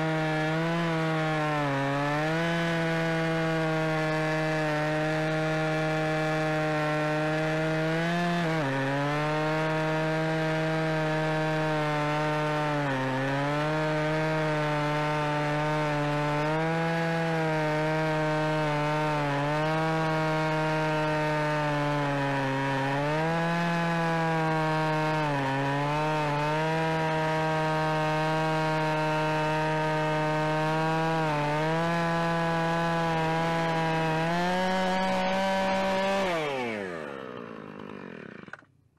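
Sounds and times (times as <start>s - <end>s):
chainsaw cutting log at full throttle: 0.0s - 38.7s.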